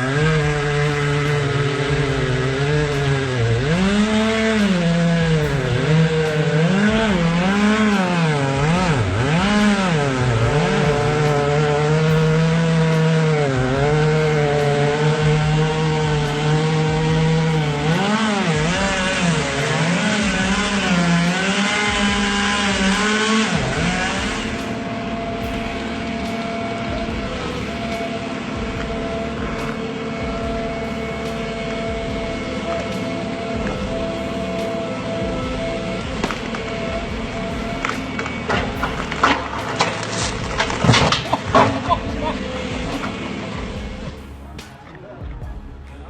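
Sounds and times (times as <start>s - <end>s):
chainsaw engine revving: 0.0s - 46.0s.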